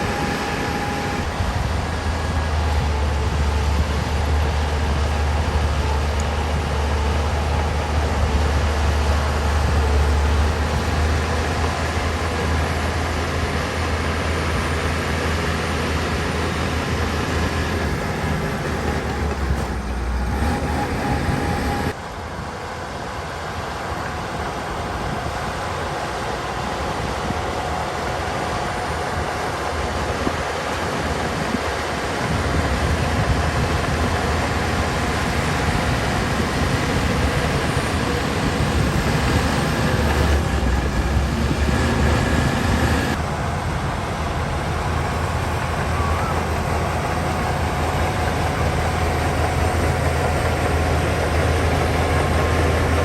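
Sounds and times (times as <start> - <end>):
bulldozer engine noise and clatter: 0.0 - 53.0.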